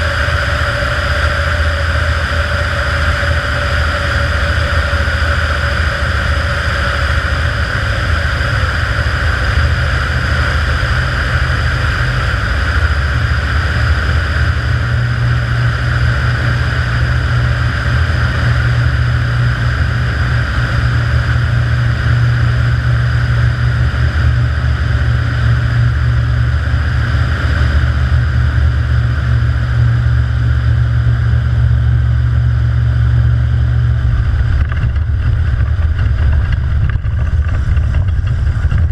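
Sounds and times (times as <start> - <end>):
plane engine and propeller droning: 0.0 - 38.9.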